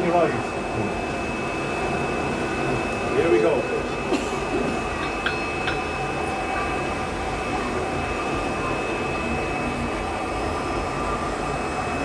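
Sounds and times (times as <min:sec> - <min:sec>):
forge blower rushing: 0:00.0 - 0:12.0.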